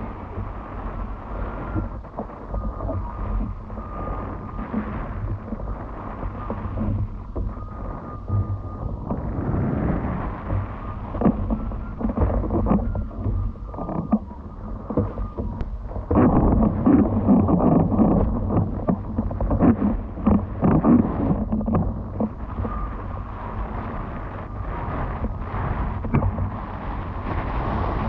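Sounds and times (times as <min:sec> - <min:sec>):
rushing slapping water: 0:00.0 - 0:28.0
wind buffeting microphone: 0:00.0 - 0:28.0.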